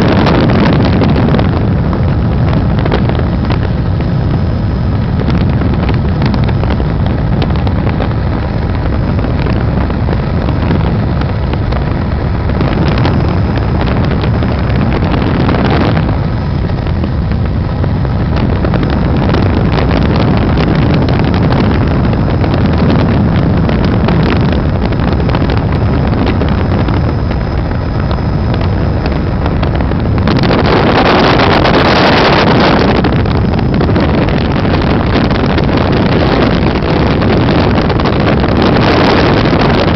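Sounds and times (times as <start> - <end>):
helicopter rotor and engine: 0.0 - 39.9
wind buffeting microphone: 0.0 - 39.9.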